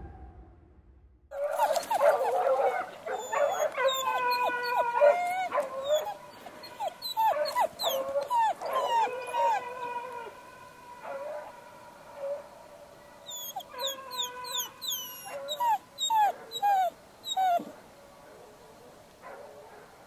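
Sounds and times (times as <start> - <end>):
hounds baying: 1.3 - 10.4, 11.0 - 20.0.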